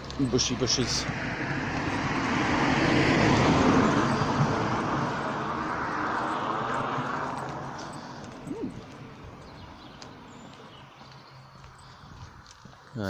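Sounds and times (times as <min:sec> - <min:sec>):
car passing by: 0:00.1 - 0:11.6.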